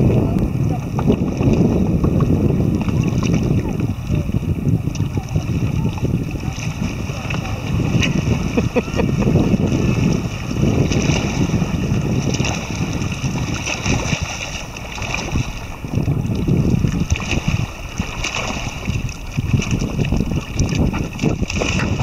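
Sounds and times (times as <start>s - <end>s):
small waves lapping: 0.0s - 22.0s
wind buffeting microphone: 0.0s - 22.0s.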